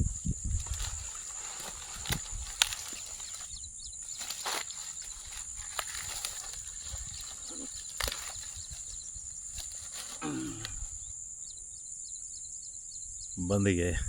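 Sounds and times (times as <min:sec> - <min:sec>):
high-pitched insect chirring: 0:00.0 - 0:10.1, 0:10.8 - 0:13.8.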